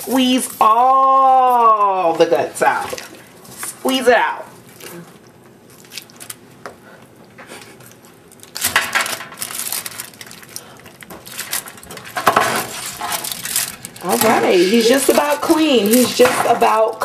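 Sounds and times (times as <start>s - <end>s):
aluminium foil crinkling: 0.0s - 6.6s, 7.7s - 17.0s.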